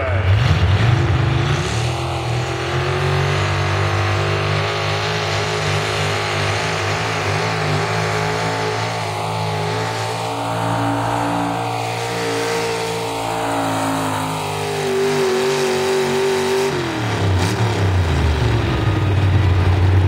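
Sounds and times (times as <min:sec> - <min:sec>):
pickup truck engine at high revs: 0:00.0 - 0:20.0.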